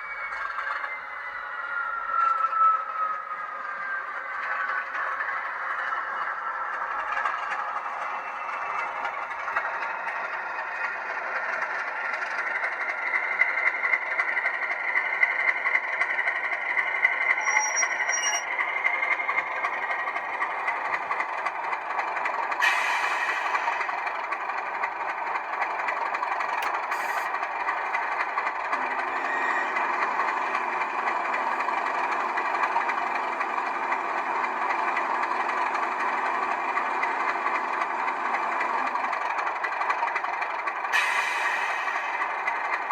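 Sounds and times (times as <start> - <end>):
diesel engine through small loudspeaker: 0.0 - 42.9.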